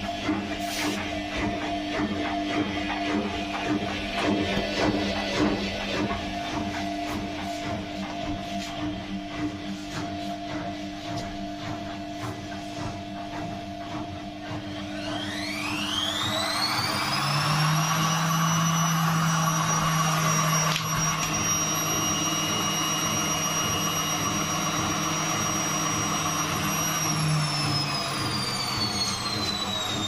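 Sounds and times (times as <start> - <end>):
washing machine motor whine: 0.0 - 30.0.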